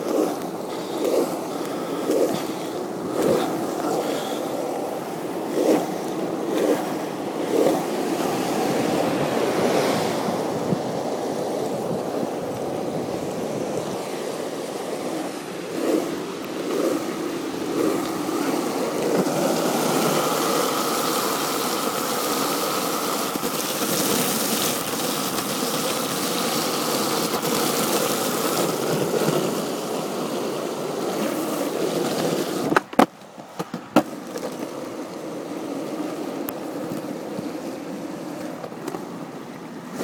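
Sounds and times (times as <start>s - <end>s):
skateboard clacks: 0.0s - 14.2s, 14.9s - 40.0s
skateboard rolling on wet pavement: 0.0s - 40.0s.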